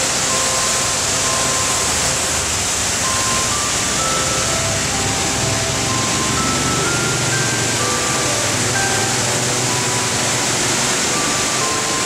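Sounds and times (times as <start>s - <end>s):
flowing water rushing: 0.0s - 12.0s
soft slow background melody: 0.0s - 12.0s.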